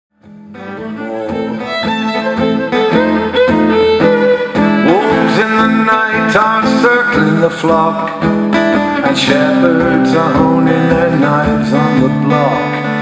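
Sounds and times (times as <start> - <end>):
acoustic guitar: 0.2 - 13.0
fiddle: 0.2 - 13.0.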